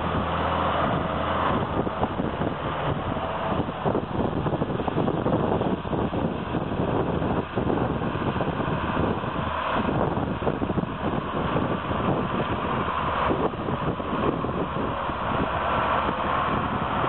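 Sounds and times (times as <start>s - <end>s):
tractor diesel engines under load: 0.0s - 17.0s
wind buffeting microphone: 0.0s - 17.0s.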